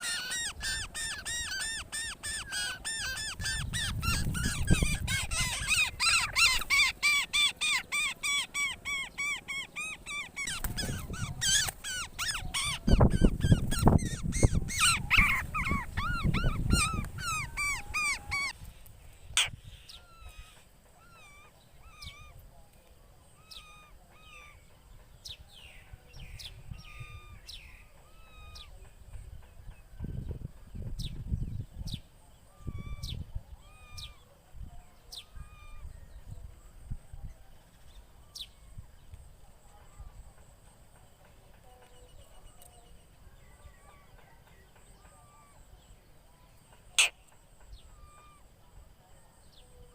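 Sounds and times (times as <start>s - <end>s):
birds calling: 0.0s - 49.9s.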